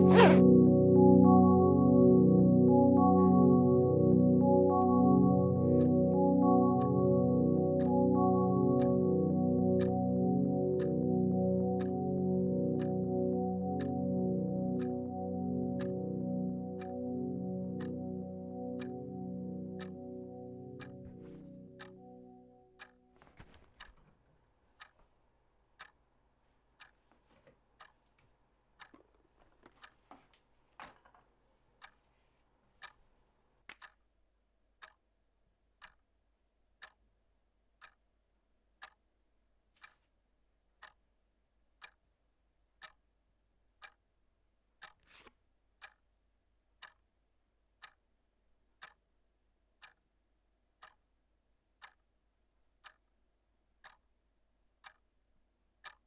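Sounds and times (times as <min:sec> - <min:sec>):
clock ticking: 0:00.0 - 0:30.9, 0:31.8 - 0:32.1, 0:32.8 - 0:34.1, 0:34.7 - 0:56.0.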